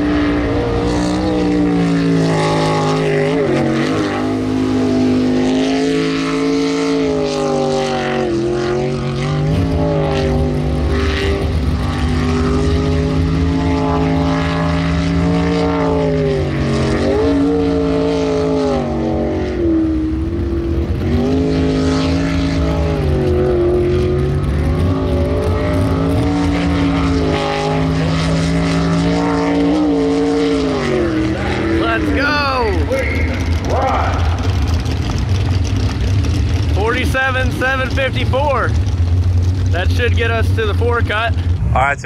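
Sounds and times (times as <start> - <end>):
boat engine running hard: 0.0 - 42.0.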